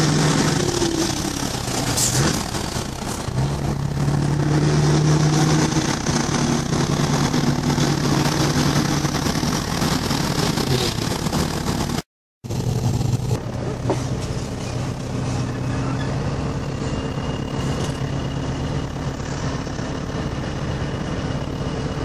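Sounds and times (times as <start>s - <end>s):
diesel truck engine running: 0.0s - 22.0s
road and wind noise: 0.0s - 22.0s.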